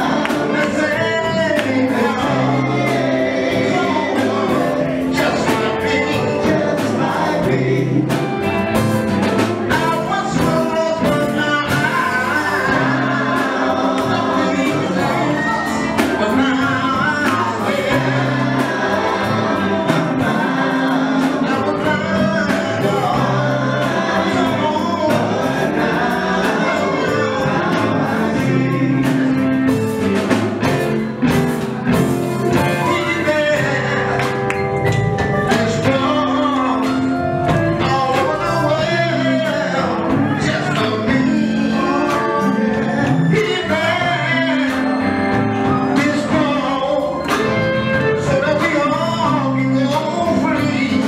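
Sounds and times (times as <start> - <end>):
male vocal group singing: 0.0 - 30.4, 31.5 - 51.0
drum kit beat: 0.0 - 51.0
electric guitar: 0.0 - 51.0
keyboard: 0.0 - 51.0
lead voice singing: 0.0 - 51.0.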